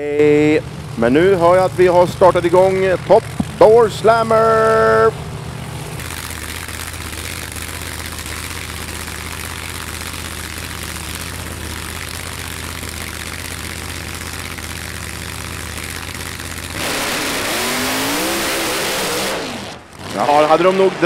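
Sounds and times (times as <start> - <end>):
drag racing engines idling: 0.0 - 21.0.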